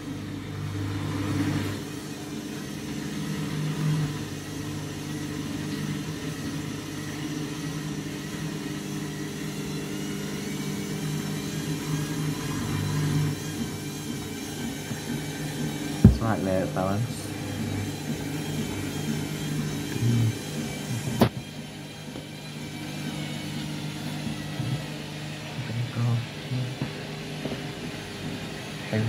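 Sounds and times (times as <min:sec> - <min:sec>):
washing machine spinning: 0:00.0 - 0:29.0.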